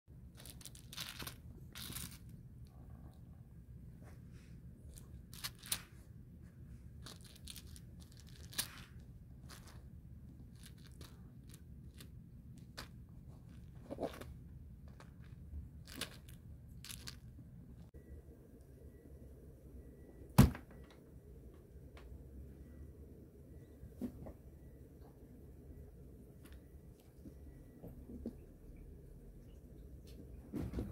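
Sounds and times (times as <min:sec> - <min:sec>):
low steady hum: 0:00.1 - 0:30.9.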